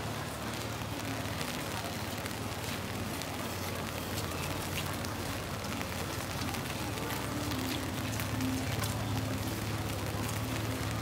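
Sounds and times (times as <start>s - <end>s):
city traffic hum: 0.0s - 11.0s
rain falling on street: 0.0s - 11.0s.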